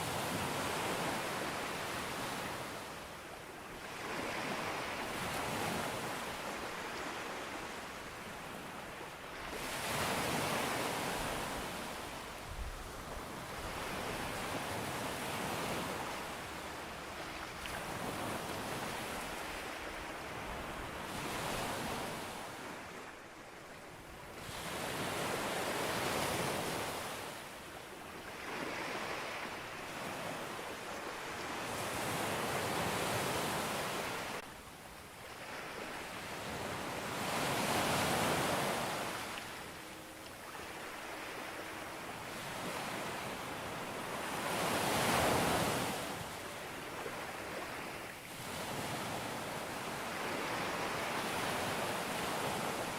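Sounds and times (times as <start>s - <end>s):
ocean waves breaking on beach: 0.0s - 52.9s.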